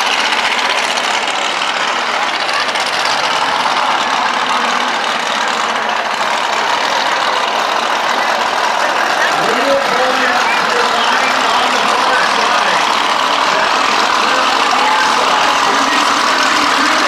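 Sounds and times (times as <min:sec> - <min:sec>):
truck engine running loud: 0:00.0 - 0:17.0.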